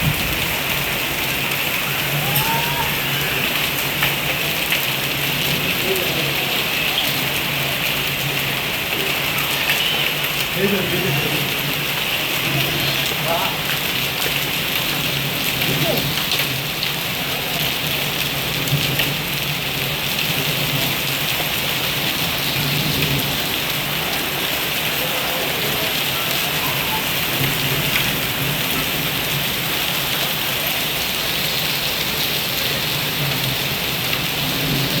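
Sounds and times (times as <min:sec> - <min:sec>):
heavy rain hissing: 0:00.0 - 0:35.0
sharp rain taps: 0:00.0 - 0:35.0.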